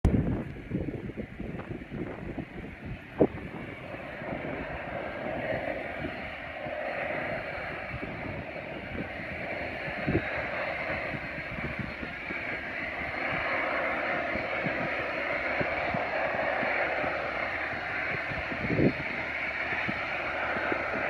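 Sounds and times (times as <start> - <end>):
distant jet engines running: 0.0 - 21.0
wind buffeting microphone: 0.0 - 21.0.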